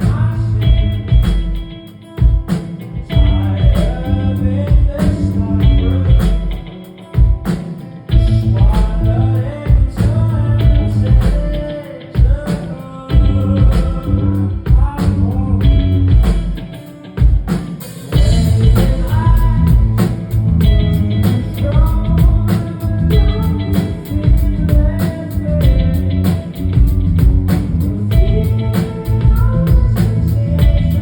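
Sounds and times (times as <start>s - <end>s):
live rock band playing: 0.0s - 31.0s
person singing: 0.0s - 31.0s.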